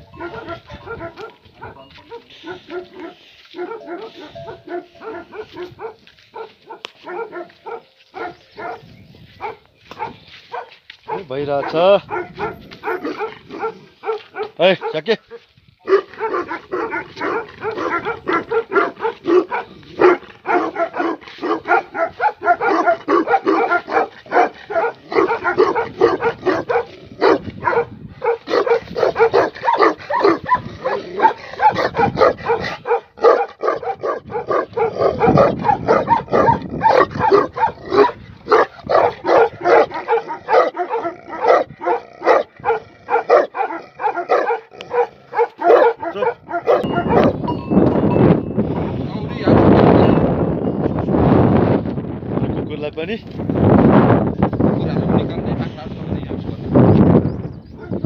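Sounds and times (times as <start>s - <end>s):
dogs barking rapidly: 0.0s - 48.6s, 56.7s - 58.0s.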